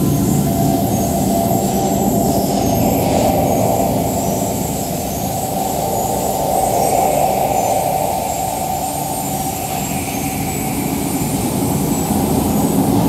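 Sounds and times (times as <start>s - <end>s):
electronic noise music drone: 0.0s - 13.0s.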